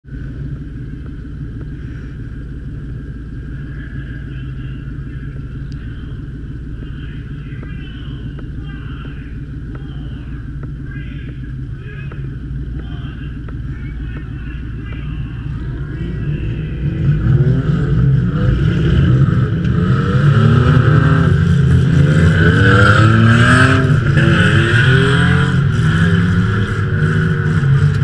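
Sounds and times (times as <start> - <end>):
car engine running steadily: 0.0 - 28.0.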